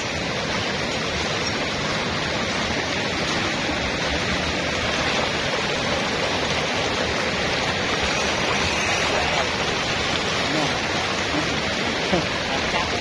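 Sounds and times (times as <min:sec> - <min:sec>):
shallow water flowing: 0:00.0 - 0:13.0.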